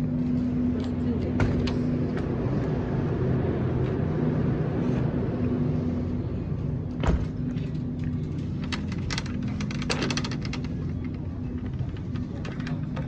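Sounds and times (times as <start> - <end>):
refrigerated cooler humming: 0.0 - 13.0.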